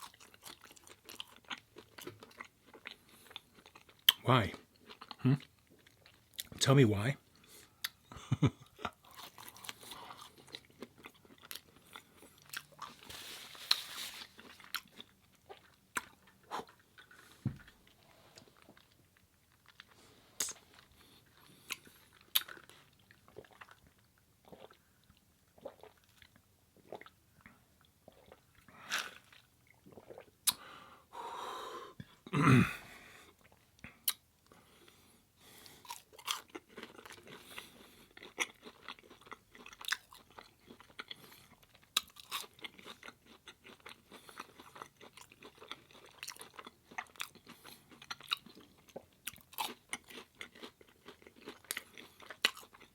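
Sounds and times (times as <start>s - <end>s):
chewing and crunching food: 0.0s - 30.8s, 33.2s - 52.9s.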